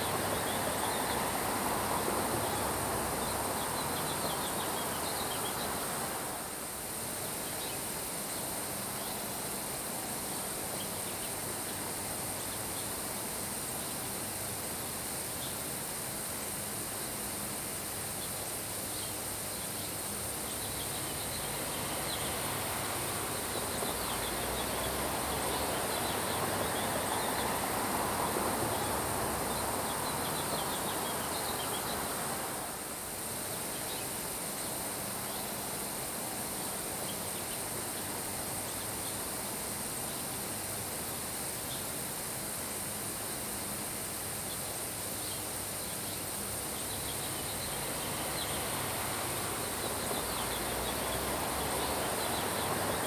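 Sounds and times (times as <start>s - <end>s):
rain falling on grass: 0.0s - 10.7s, 11.3s - 42.4s, 43.0s - 53.0s
wind-driven rain: 0.0s - 53.0s.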